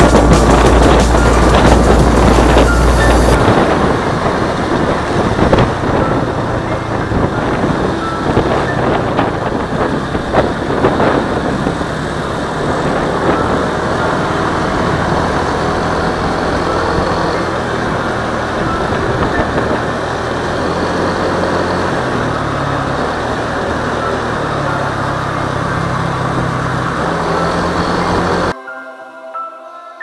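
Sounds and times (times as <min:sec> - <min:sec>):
motorcycle engine hum: 0:00.0 - 0:28.6
road and wind noise: 0:00.0 - 0:28.6
wind gusts: 0:00.0 - 0:28.6.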